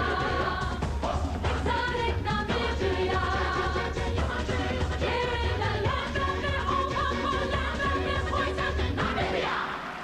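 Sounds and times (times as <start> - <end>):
upbeat pop music with pulsing bass: 0.0 - 9.8.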